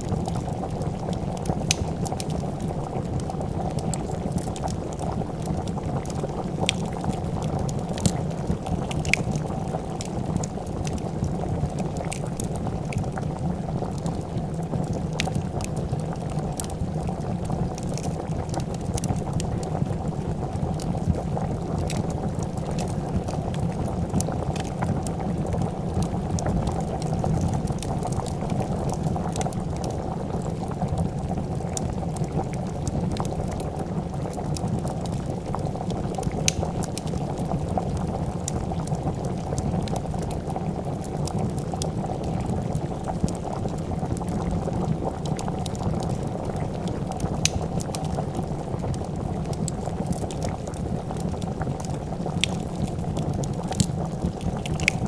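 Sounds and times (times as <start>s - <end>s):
soup bubbling in a pot: 0.0s - 55.0s
wood fire crackling and popping: 0.0s - 55.0s.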